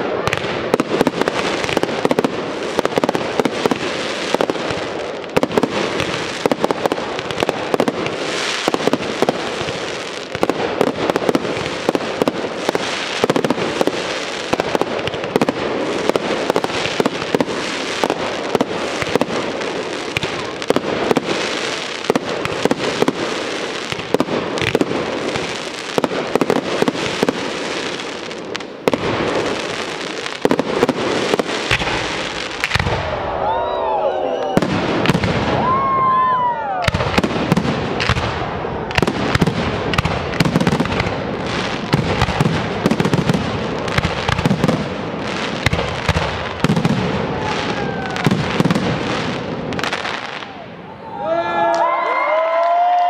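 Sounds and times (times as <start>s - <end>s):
fireworks bursting: 0.0s - 50.9s.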